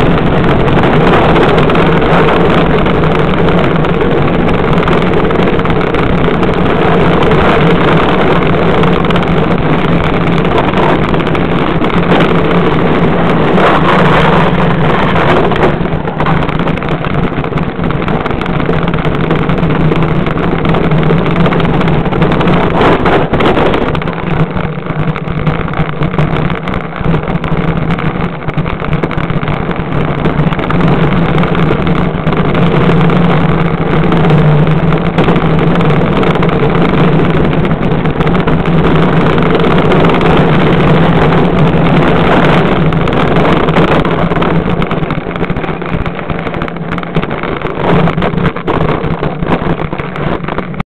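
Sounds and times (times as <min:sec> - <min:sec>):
cart wheels rolling on pavement: 0:00.0 - 0:50.8.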